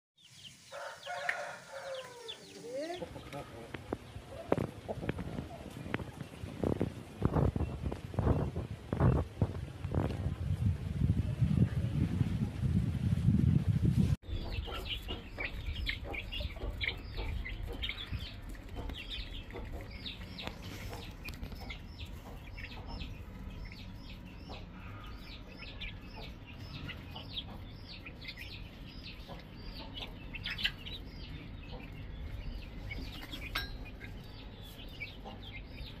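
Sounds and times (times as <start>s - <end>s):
chicks peeping: 0.2s - 11.5s, 14.2s - 36.0s
steady low rumble: 3.2s - 36.0s.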